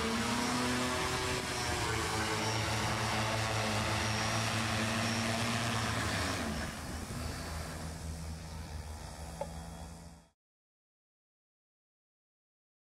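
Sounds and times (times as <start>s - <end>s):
drone rotors humming: 0.0s - 10.4s.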